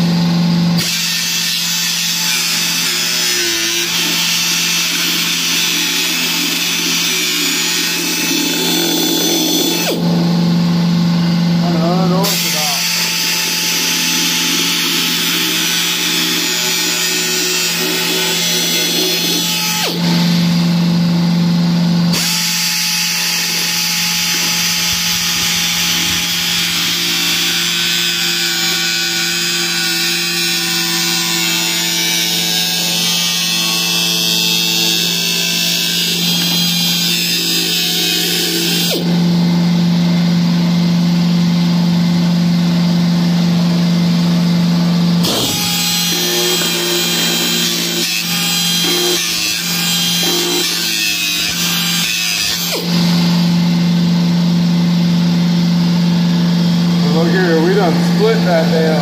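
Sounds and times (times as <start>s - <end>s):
cut-off wheel grinding metal: 0.0s - 59.0s.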